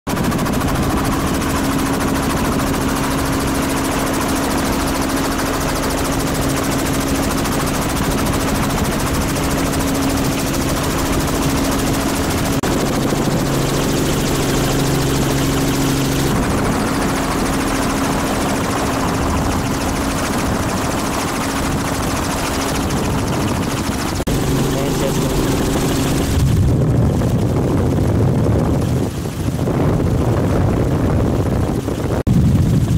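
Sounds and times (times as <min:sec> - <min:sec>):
helicopter rotor and engine drone: 0:00.1 - 0:32.9.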